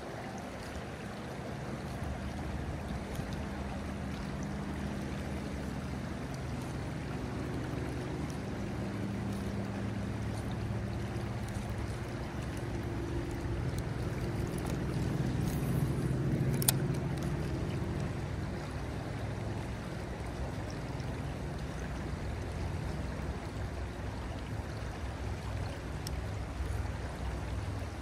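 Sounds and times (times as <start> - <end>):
river flowing: 0.0 - 28.0.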